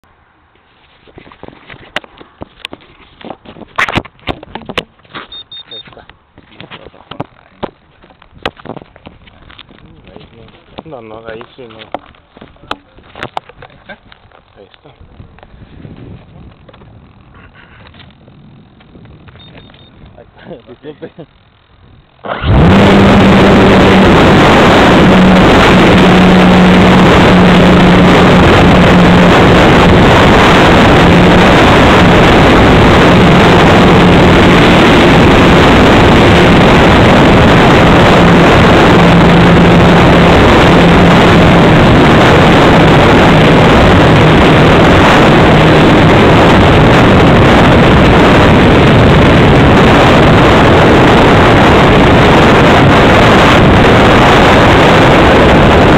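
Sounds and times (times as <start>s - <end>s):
wind rush on microphone: 0.8s - 5.2s, 5.8s - 55.9s.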